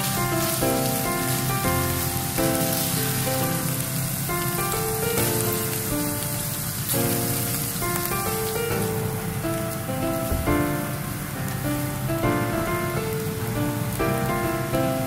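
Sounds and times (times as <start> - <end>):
beef sizzling in a frying pan: 0.0 - 15.0.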